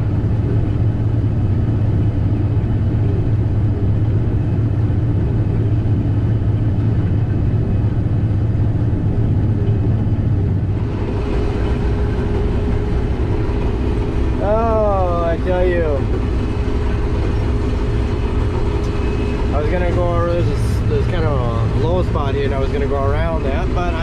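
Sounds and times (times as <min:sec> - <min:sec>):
combine harvester engine drone: 0:00.0 - 0:24.0.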